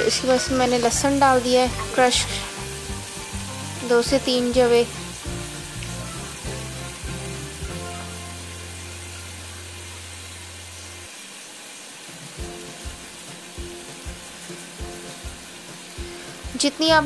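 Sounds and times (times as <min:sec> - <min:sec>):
soft background music: 0:00.0 - 0:11.2, 0:12.1 - 0:17.0.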